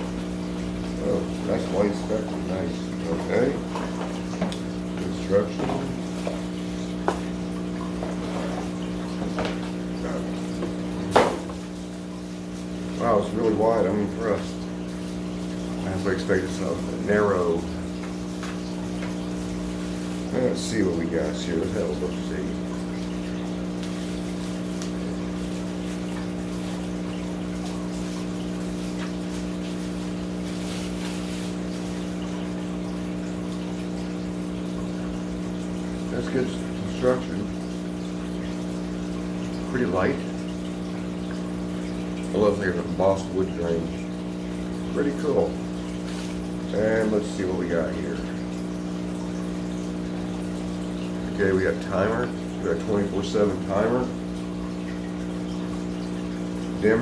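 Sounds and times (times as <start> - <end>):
aquarium pumps humming: 0.0 - 57.0
water trickling: 0.0 - 57.0.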